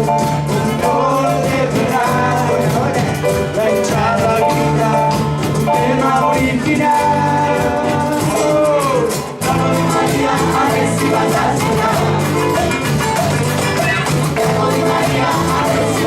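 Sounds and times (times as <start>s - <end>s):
live band playing: 0.0s - 16.0s
person singing: 0.0s - 16.0s.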